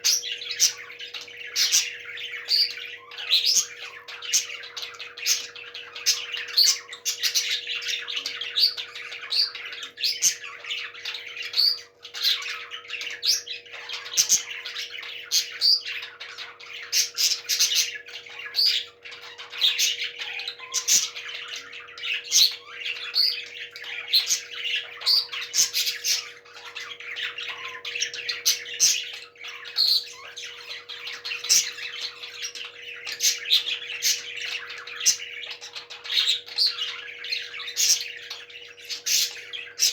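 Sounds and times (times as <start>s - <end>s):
parrots chattering and squawking: 0.0s - 39.9s.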